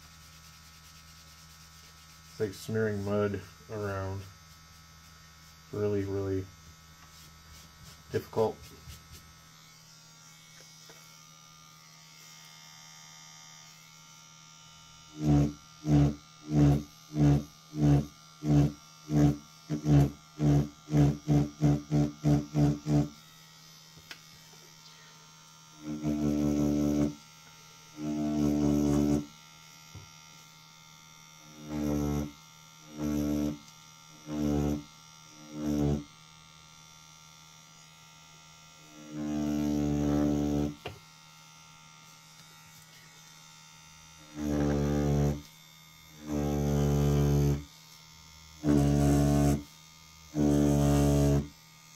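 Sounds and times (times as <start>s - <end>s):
tattoo machine buzzing: 0.0s - 51.9s.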